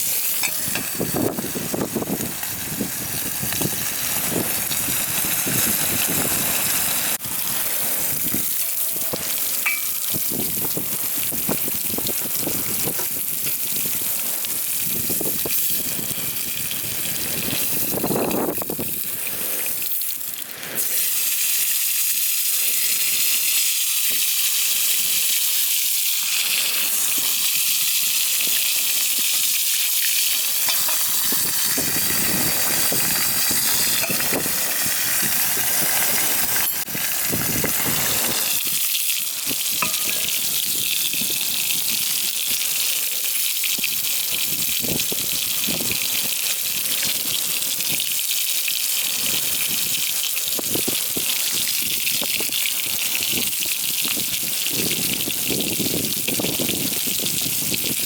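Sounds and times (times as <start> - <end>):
food sizzling over a campfire: 0.0 - 58.0.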